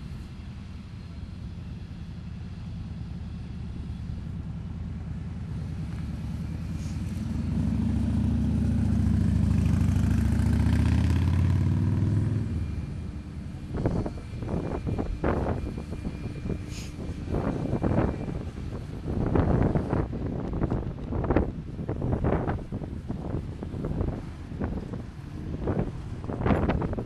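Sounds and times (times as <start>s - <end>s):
engine running at low pitch: 0.0s - 27.0s.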